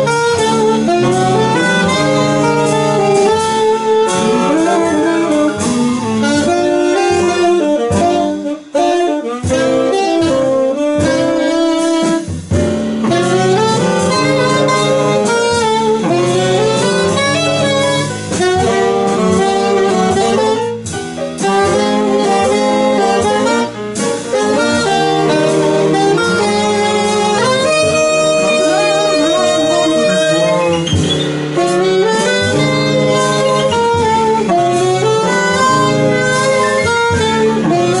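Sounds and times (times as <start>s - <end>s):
band rhythm section: 0.0s - 38.0s
saxophones playing jazz melody: 0.0s - 38.0s.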